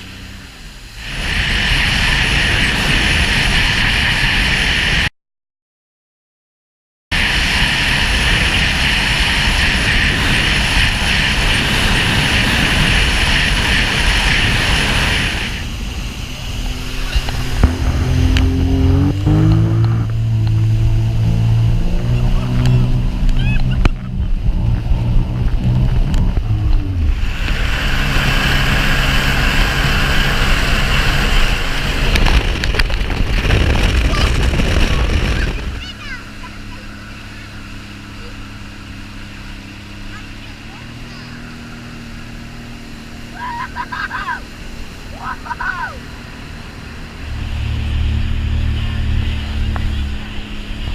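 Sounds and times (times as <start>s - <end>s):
hiss of spray and wind: 0.0s - 5.1s, 7.2s - 50.9s
jet ski engine and water rush: 0.0s - 5.1s, 7.1s - 50.9s.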